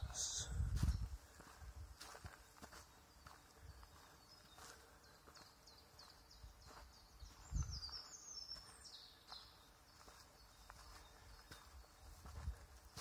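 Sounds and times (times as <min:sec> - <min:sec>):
footsteps on woodland floor: 0:00.0 - 0:13.0
songbird singing: 0:00.0 - 0:13.0.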